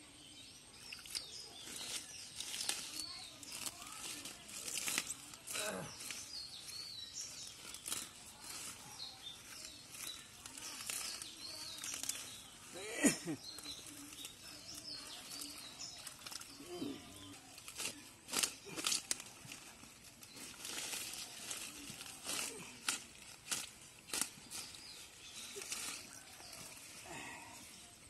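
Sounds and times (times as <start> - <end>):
birds chirping faintly: 0.0 - 28.0
leaves and stems tearing: 0.8 - 28.0.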